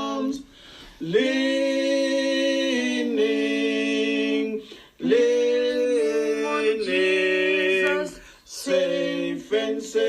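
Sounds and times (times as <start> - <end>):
voices singing a hymn: 0.0 - 10.0.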